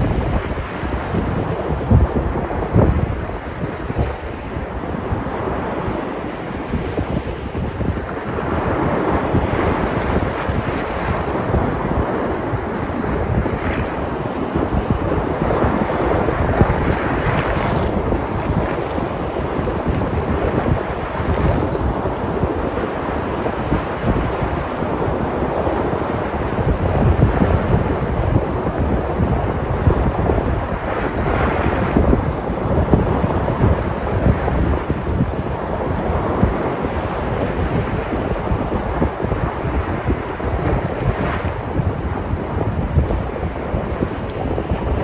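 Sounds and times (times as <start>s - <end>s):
surf breaking on shore: 0.0s - 45.0s
wind buffeting microphone: 0.0s - 45.0s.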